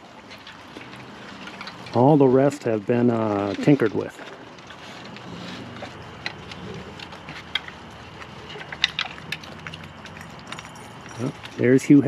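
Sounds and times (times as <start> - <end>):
low steady hum: 0.0 - 12.0
raccoons rummaging among toys: 0.0 - 12.0.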